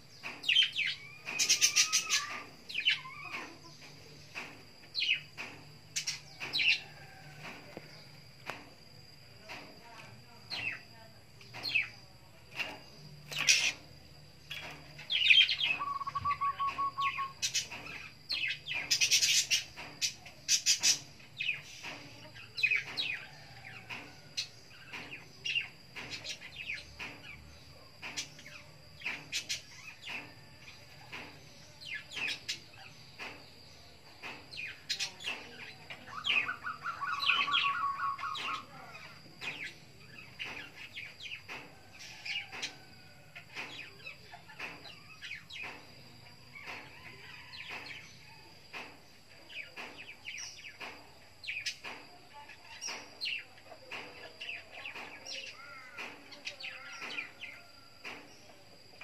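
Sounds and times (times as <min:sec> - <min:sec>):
songbird chirping and calling: 0:00.0 - 0:59.0
songbird rapid trill: 0:00.0 - 0:59.0.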